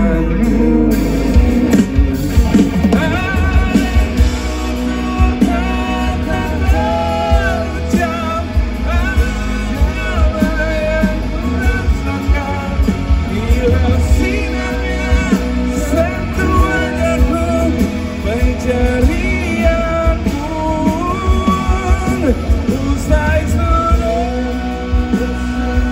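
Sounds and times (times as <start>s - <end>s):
person singing: 0.0s - 25.9s
pop-rock band playing live: 0.0s - 25.9s.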